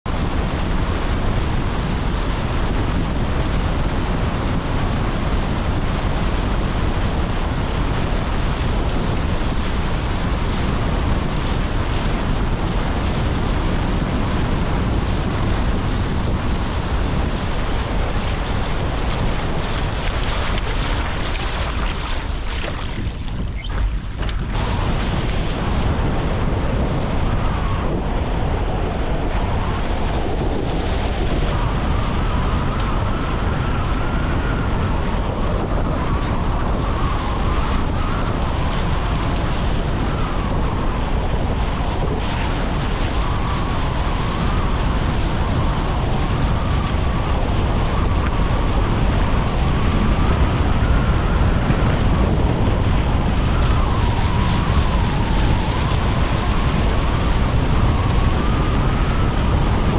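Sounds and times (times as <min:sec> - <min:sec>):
wind buffeting microphone: 0:00.0 - 0:59.9
water rushing off boat hulls: 0:00.2 - 0:59.9.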